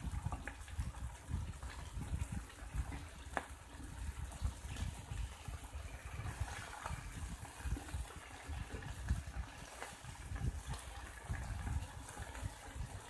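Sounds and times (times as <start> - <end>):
fish sizzling on grill pan: 1.5 - 13.0.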